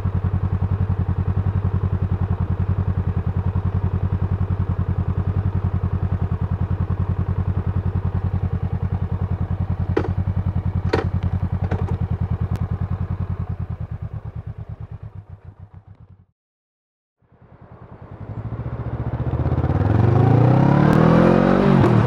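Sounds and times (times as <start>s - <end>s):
motorcycle engine idling: 0.0s - 16.3s, 17.2s - 20.0s.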